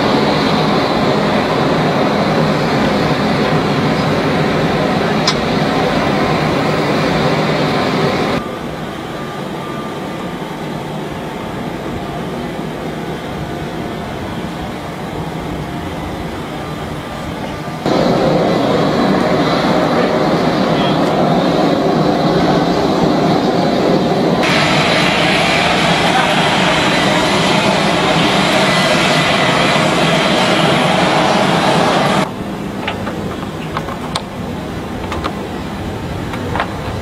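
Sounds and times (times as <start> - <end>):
jet engine rushing: 0.0 - 37.0.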